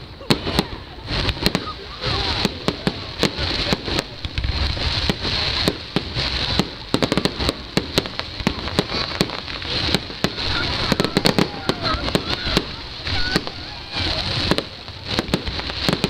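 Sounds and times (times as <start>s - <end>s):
fireworks bangs and pops: 0.0s - 16.0s
fireworks crackling hiss: 0.0s - 16.0s.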